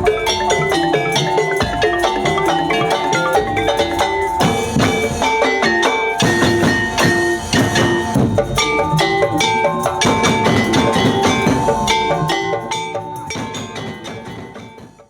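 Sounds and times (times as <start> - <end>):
fast hand drum strokes: 0.0 - 15.0
pitched struck notes: 0.0 - 15.0.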